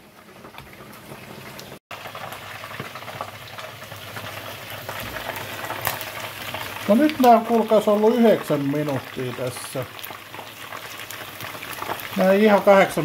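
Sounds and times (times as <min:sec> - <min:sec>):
oil bubbling and crackling: 0:00.0 - 0:13.0.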